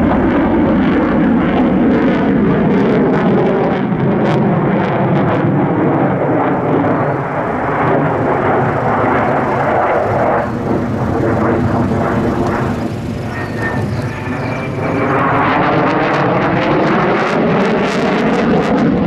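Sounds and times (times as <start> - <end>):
fighter jet engine roar: 0.0 - 19.0.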